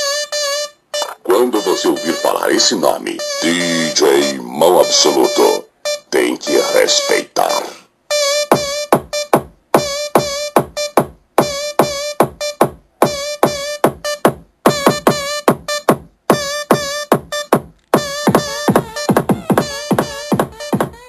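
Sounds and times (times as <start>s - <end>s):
electronic dance music: 1.0s - 21.0s.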